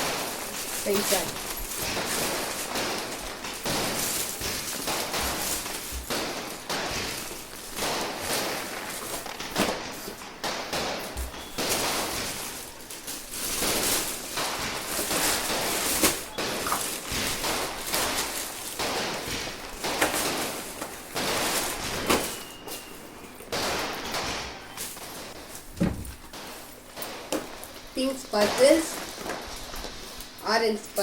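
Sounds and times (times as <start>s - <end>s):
boxes knocking: 0.0s - 26.3s
packaging crinkling and rustling: 0.0s - 31.0s.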